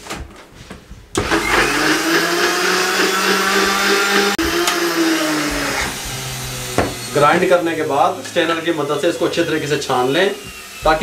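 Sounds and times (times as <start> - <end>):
blender motor grinding pulp: 1.1 - 11.0.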